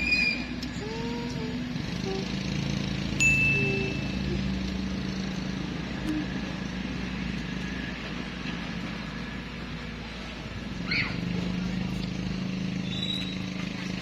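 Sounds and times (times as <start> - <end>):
low motor hum: 0.0 - 14.0
outdoor noise: 0.0 - 14.0.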